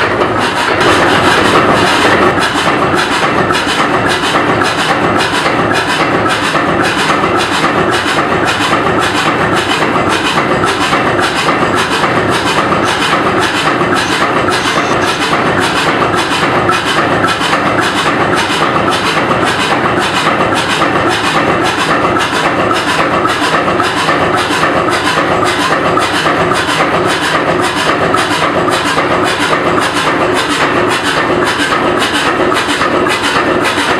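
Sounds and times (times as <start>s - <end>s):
engine rhythmic clatter: 0.0s - 33.9s.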